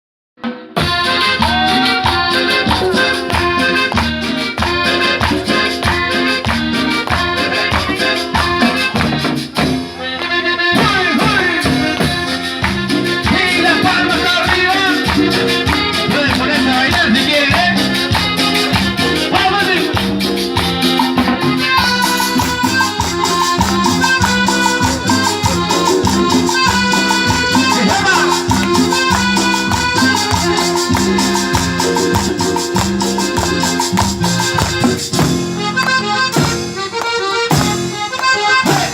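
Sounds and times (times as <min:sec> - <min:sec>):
latin dance music: 0:00.4 - 0:38.9.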